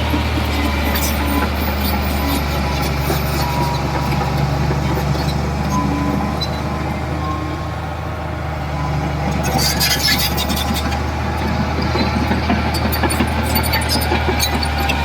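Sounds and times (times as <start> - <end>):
heavy diesel engine humming: 0.0 - 15.0.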